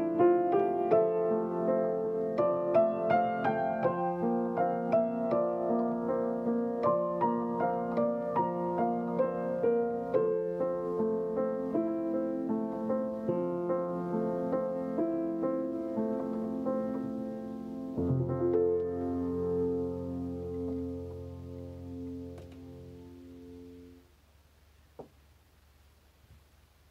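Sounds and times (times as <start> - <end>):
solo piano melody: 0.0 - 24.2.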